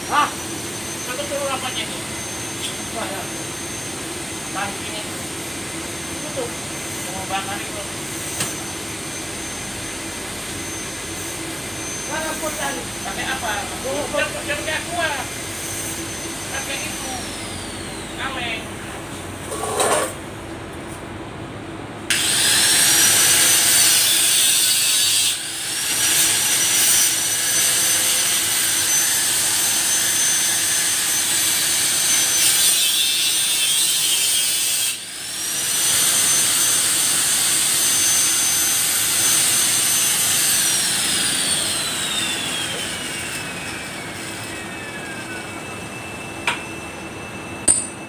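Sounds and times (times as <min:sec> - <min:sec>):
angle grinder whining and grinding: 0:00.0 - 0:18.6, 0:19.4 - 0:20.2, 0:22.1 - 0:48.0.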